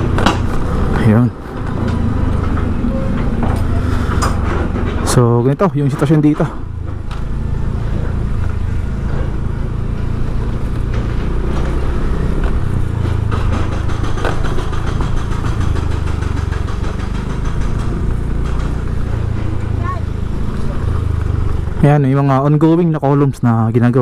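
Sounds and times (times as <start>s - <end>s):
street traffic noise: 0.0s - 24.0s
vehicle engines running: 0.0s - 24.0s.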